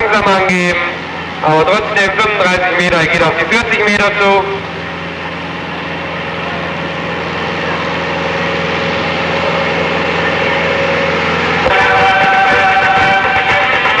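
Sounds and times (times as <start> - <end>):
tractor engine running hard: 0.0 - 14.0.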